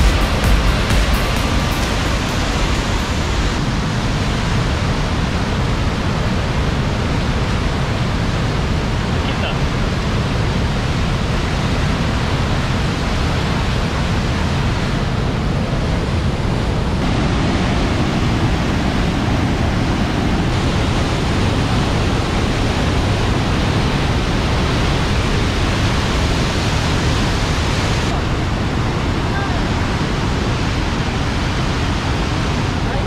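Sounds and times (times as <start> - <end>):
whitewater rushing over boulders: 0.0 - 33.0.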